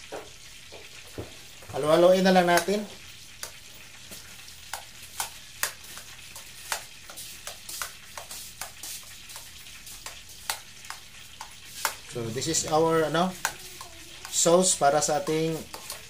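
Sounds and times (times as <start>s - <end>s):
spoon stirring thick sauce: 2.4s - 16.0s.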